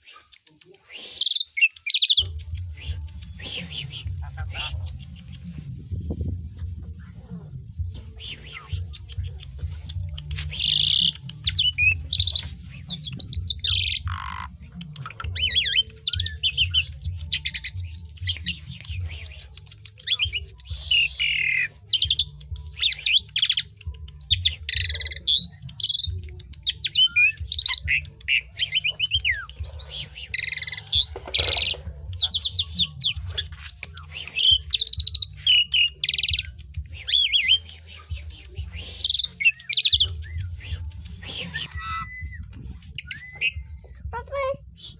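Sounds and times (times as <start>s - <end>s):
starling singing: 0.0s - 44.9s
steady low hum: 2.2s - 44.9s.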